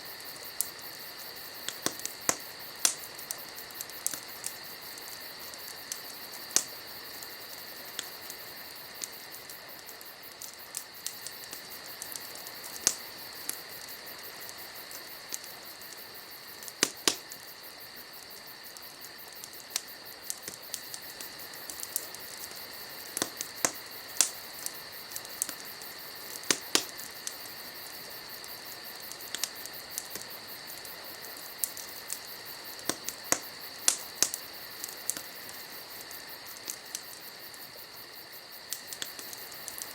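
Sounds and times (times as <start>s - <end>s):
insect chirring: 0.0s - 39.9s
wood fire crackling: 0.0s - 39.9s.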